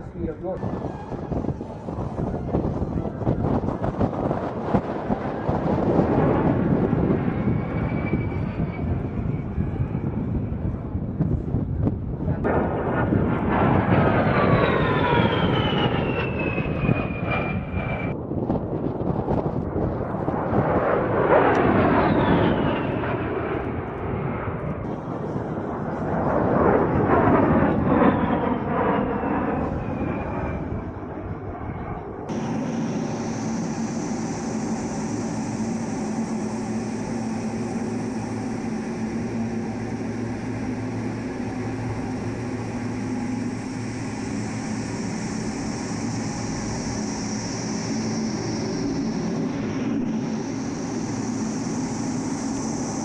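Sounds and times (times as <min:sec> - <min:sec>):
jet drone with high whine: 0:00.0 - 0:53.0
jet passing overhead: 0:00.0 - 0:53.0.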